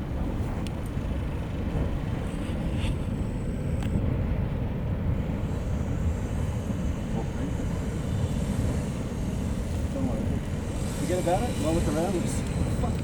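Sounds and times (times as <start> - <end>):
deep steady rumble of lava: 0.0 - 13.0.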